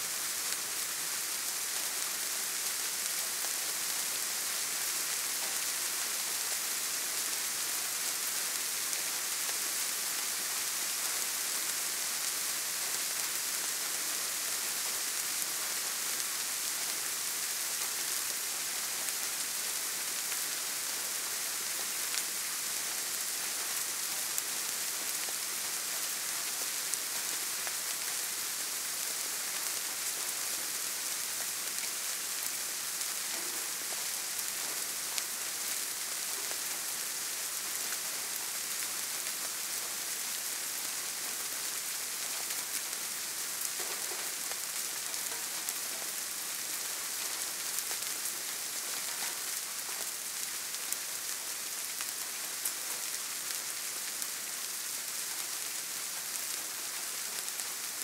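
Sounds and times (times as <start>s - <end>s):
soft rain: 0.0s - 58.0s.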